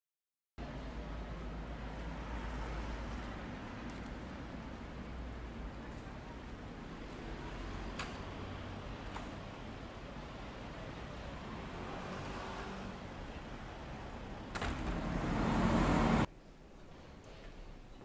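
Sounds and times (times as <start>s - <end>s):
low traffic rumble: 0.6s - 16.7s.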